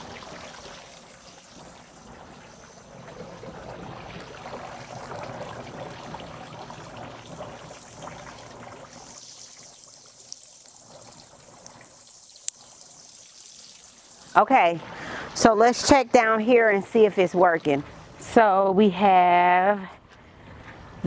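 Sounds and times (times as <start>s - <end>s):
water trickling: 0.0s - 18.7s.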